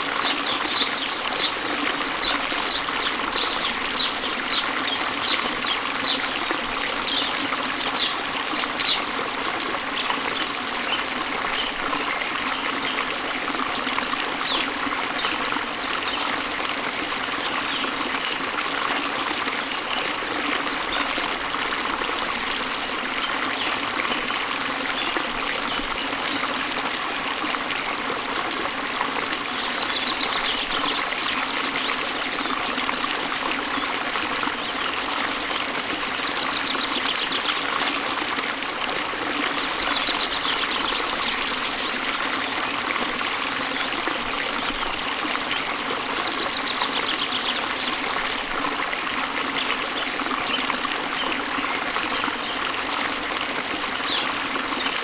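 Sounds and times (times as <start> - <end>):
waterfall running: 0.0 - 55.0.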